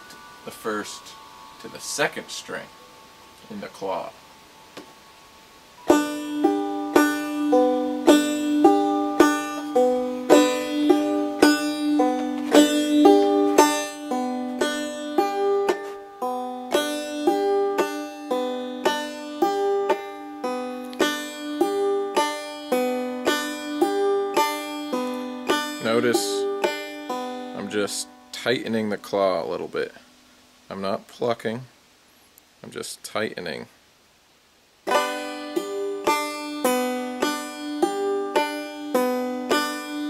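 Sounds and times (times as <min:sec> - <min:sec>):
banjo plucked notes: 0:00.0 - 0:30.0, 0:34.8 - 0:40.0.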